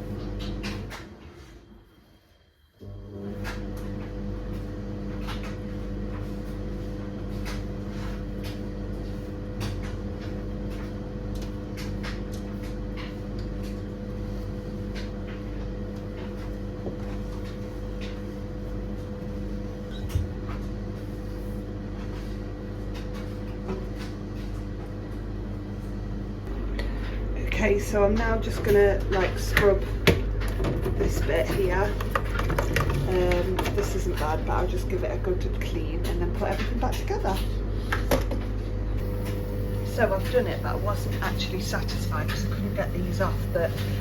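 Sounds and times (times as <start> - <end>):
steady low hum: 2.8 - 44.0.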